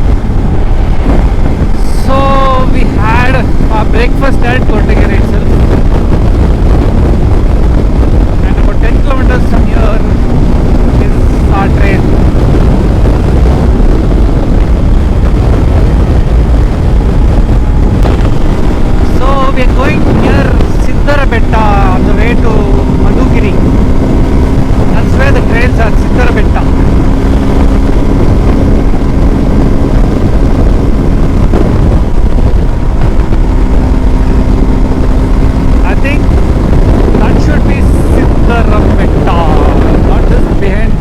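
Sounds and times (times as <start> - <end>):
motorcycle engine running: 0.0 - 41.0
wind rushing over microphone: 0.0 - 41.0.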